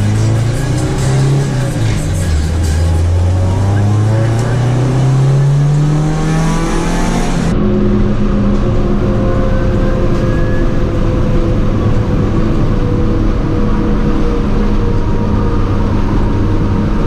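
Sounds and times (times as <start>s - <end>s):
car engine accelerating and shifting: 0.0s - 17.0s.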